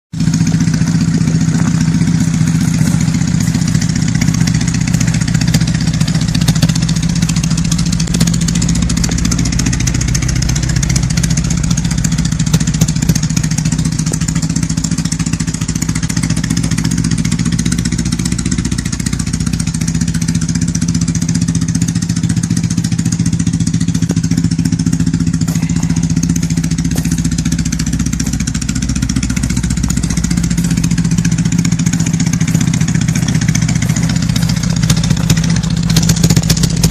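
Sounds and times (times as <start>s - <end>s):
motorcycle engine running: 0.1s - 36.9s.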